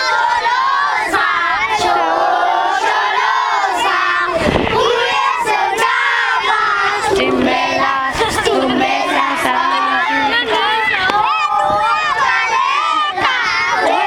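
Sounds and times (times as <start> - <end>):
young children shouting: 0.0 - 14.0.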